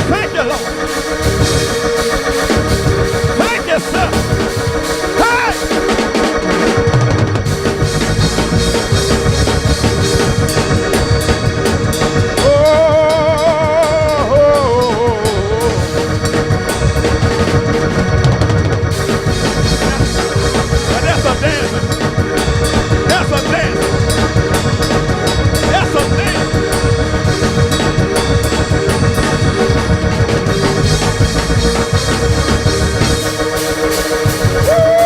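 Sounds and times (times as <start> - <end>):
organ and drum kit playing: 0.0 - 35.0.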